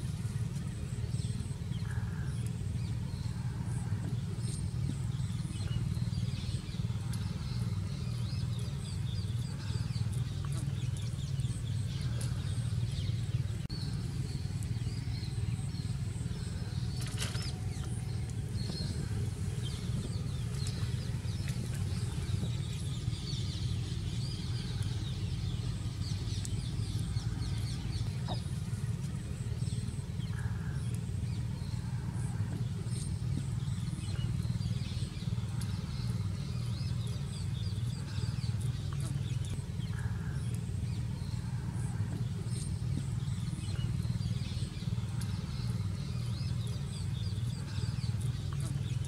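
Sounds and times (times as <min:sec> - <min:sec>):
small birds chirping: 0:00.0 - 0:49.0
steady low hum: 0:00.0 - 0:49.0.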